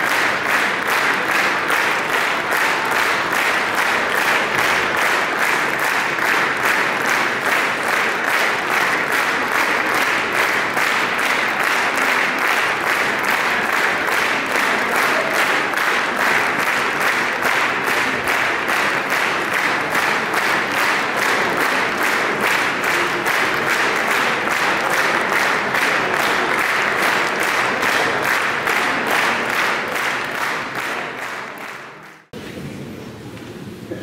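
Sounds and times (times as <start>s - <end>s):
audience clapping in rhythm: 0.0s - 32.4s.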